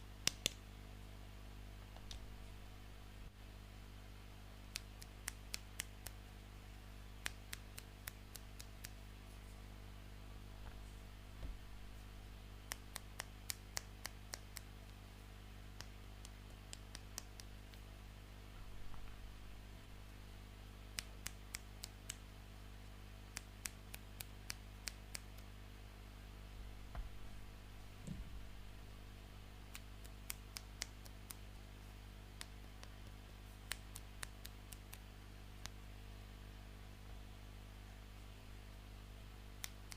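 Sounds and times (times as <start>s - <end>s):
faint hum: 0.0s - 39.9s.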